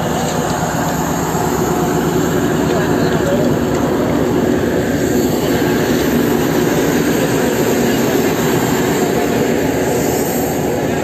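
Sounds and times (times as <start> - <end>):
diesel train engine rumbling: 0.0 - 11.0.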